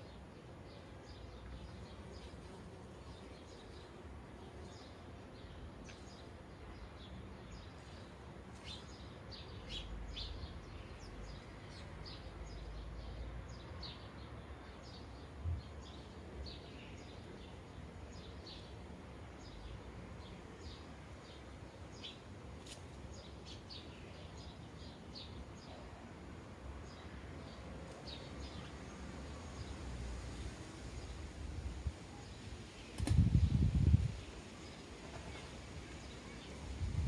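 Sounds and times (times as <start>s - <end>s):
sparrows chirping: 0.0s - 37.0s.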